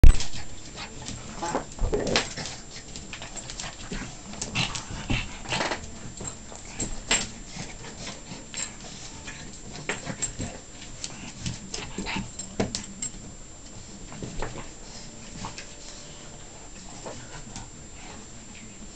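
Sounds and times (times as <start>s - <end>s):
dogs scuffling: 0.0s - 18.9s.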